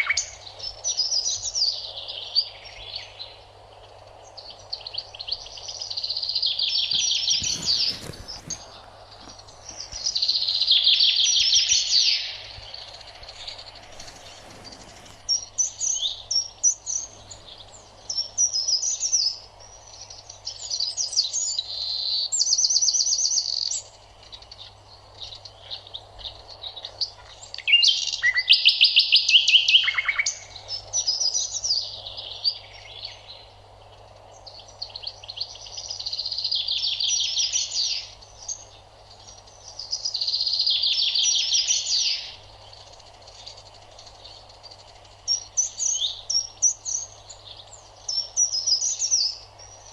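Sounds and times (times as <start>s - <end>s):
songbirds singing: 0.0s - 49.9s.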